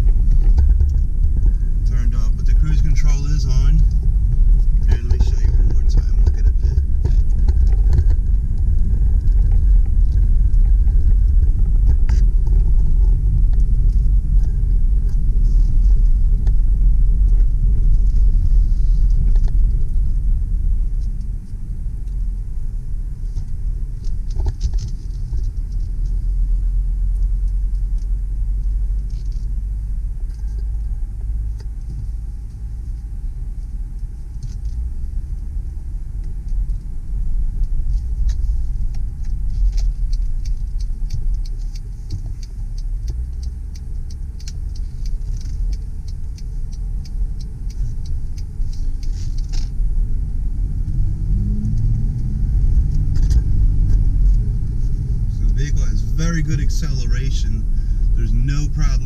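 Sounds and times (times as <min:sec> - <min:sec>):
diesel engine low rumble: 0:00.0 - 0:59.0
tyres on road: 0:00.0 - 0:59.0.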